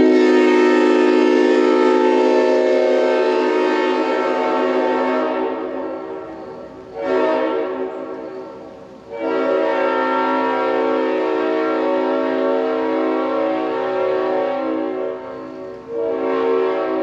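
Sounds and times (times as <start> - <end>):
locomotive horn blowing: 0.0 - 17.0.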